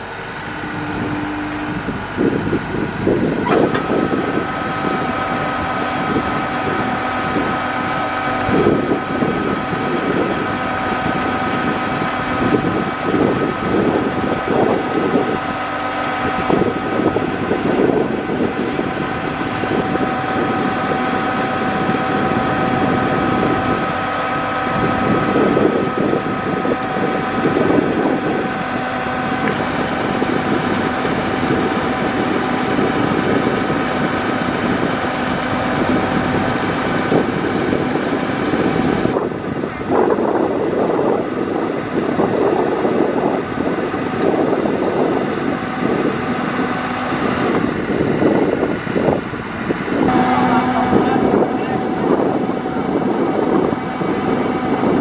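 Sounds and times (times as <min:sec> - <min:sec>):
auger discharging grain: 0:00.0 - 0:48.6, 0:49.8 - 0:55.0
combine harvester diesel engine: 0:00.0 - 0:55.0.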